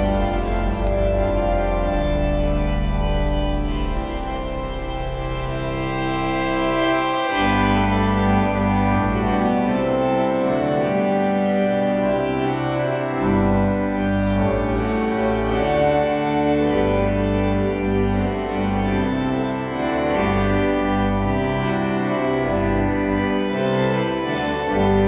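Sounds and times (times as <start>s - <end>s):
organ playing chords: 0.0s - 25.0s.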